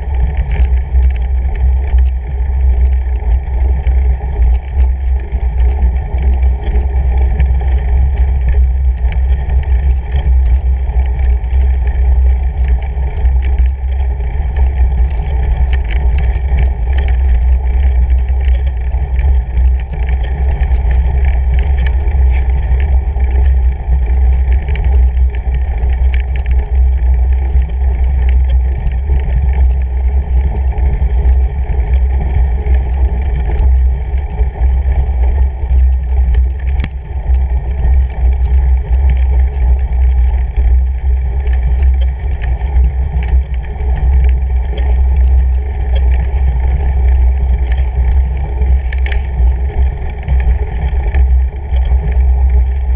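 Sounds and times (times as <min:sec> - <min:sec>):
bike tyre rumbling over snow: 0:00.0 - 0:52.9
small clicks and crunches: 0:00.0 - 0:52.9.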